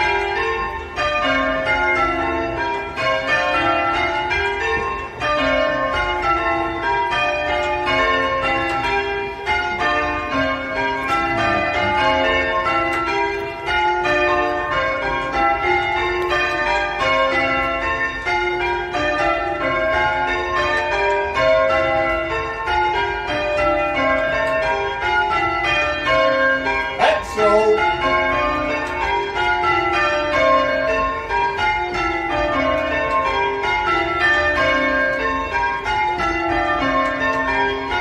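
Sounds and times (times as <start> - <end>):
church bells ringing: 0.0 - 38.0.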